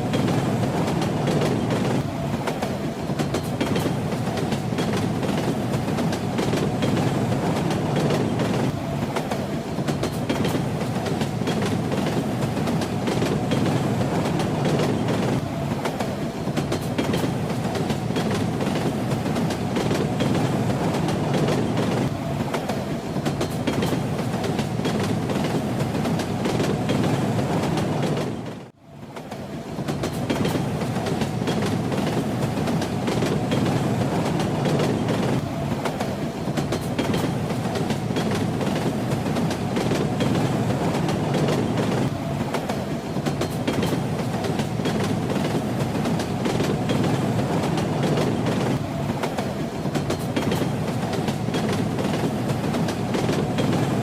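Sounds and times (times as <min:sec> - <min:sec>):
train running on rails: 0:00.0 - 0:54.0.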